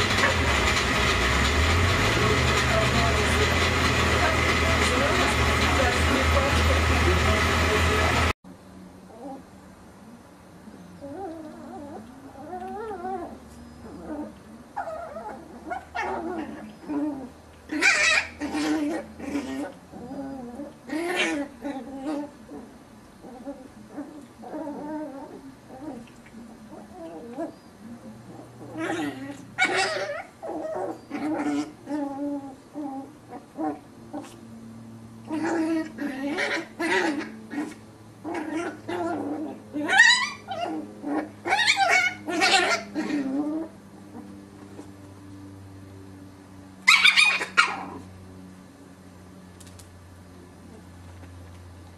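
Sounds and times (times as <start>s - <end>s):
puppies play-growling and yipping: 0.0s - 8.4s, 9.1s - 9.5s, 10.7s - 48.3s, 49.6s - 51.9s
faint low hum: 4.2s - 51.9s.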